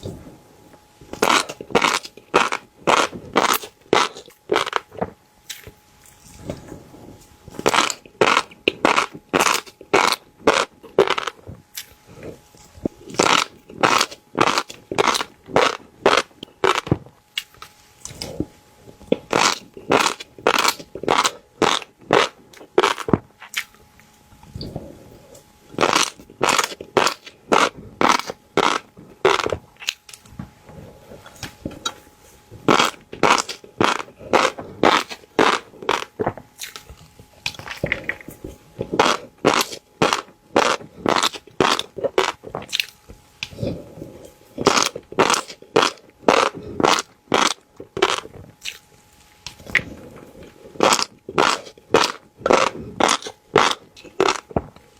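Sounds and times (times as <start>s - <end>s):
fish roe crunching: 0.0s - 54.9s.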